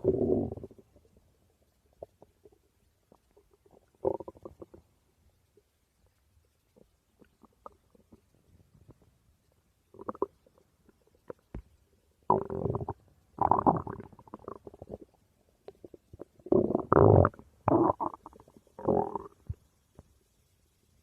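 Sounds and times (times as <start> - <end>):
stomach growling and gurgling: 0.0 - 20.2.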